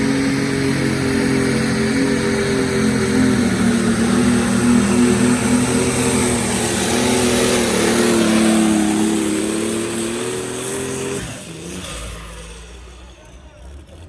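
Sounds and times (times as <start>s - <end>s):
tractor engine at full power: 0.0s - 14.0s.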